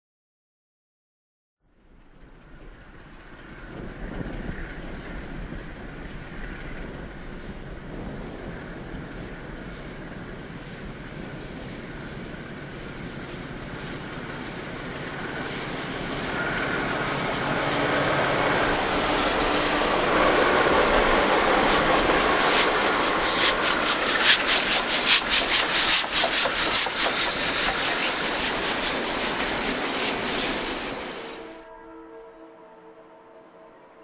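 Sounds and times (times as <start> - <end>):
diesel locomotive engine: 1.7 - 33.8
rail noise: 1.8 - 34.0
steam locomotive exhaust beating: 2.2 - 31.7.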